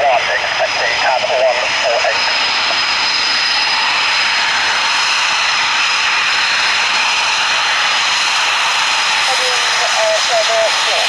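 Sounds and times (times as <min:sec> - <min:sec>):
high engine whine: 0:00.0 - 0:11.0
jet engines running: 0:00.0 - 0:11.0.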